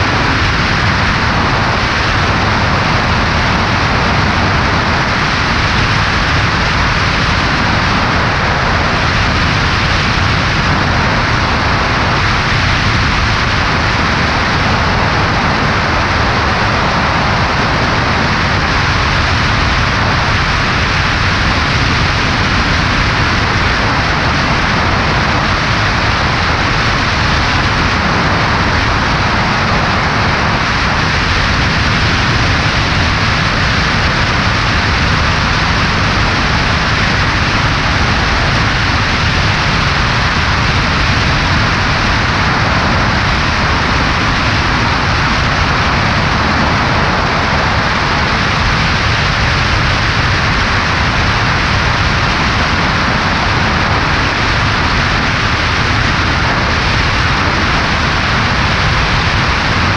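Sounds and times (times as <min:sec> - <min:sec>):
airflow rushing: 0:00.0 - 0:59.9
light aircraft engine and propeller: 0:00.0 - 0:59.9.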